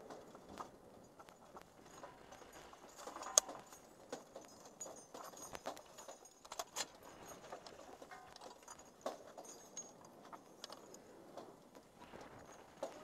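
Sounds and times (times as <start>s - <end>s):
metal clinks and rattling: 0.0s - 13.0s.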